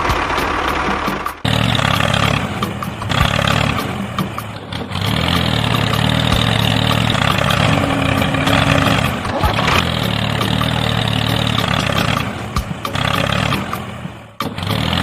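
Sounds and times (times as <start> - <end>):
small vehicle engine running: 0.0 - 15.0.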